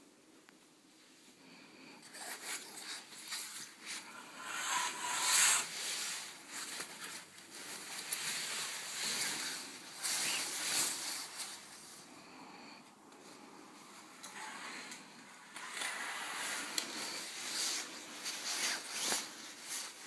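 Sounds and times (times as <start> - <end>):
rustling and handling noise: 0.5 - 12.1, 13.1 - 20.0.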